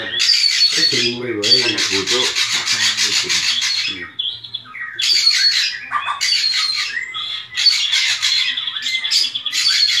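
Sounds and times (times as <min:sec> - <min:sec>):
bird harsh raspy chatter: 0:00.0 - 0:10.0.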